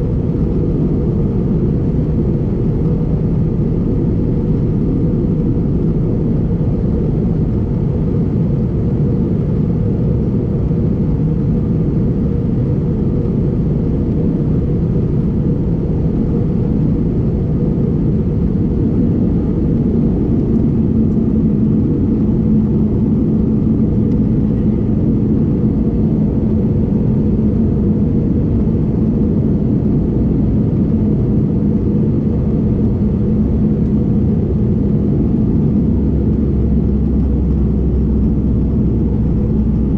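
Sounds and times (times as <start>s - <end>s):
airplane engines rumbling in cabin: 0.0s - 39.9s
steady hum: 0.0s - 39.9s.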